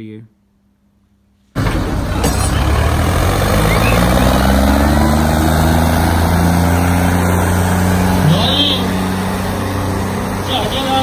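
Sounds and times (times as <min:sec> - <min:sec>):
diesel tractor engines labouring: 0:01.6 - 0:11.0.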